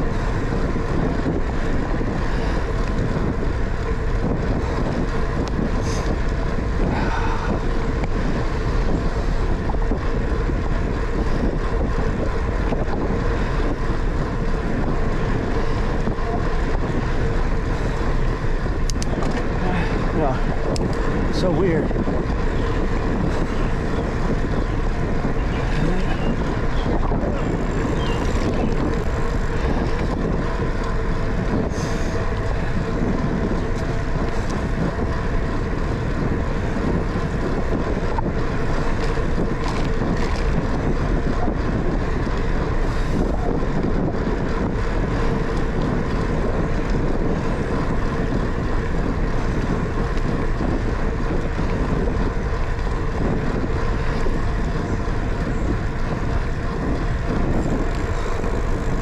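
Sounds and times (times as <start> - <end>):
bicycle hum: 0.0 - 59.0
wind buffeting microphone: 0.0 - 59.0.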